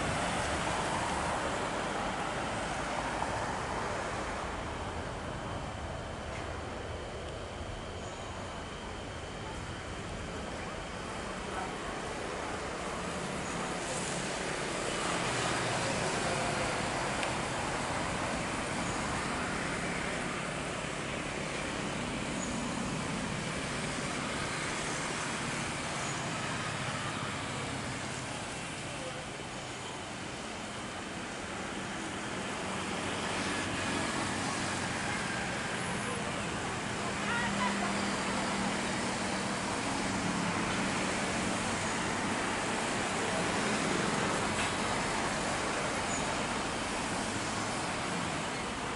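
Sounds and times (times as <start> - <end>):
jet engines at takeoff: 0.0 - 48.9.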